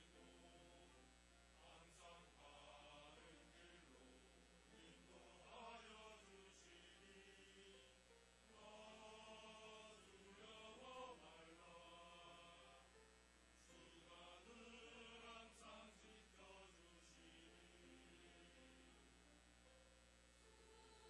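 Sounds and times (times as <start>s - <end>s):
choir singing a hymn: 0.0s - 1.0s, 1.6s - 13.0s, 13.6s - 19.0s, 20.6s - 21.0s.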